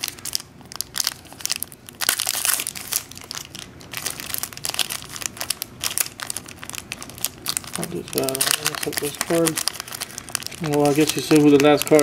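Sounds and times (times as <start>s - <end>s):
foil wrapper tearing and crinkling: 0.0s - 12.0s.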